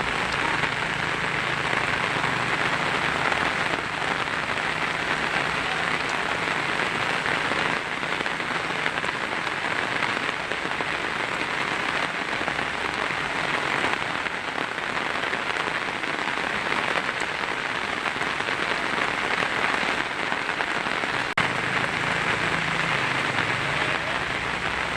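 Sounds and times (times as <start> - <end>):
heavy rain on a tin roof: 0.0 - 24.9.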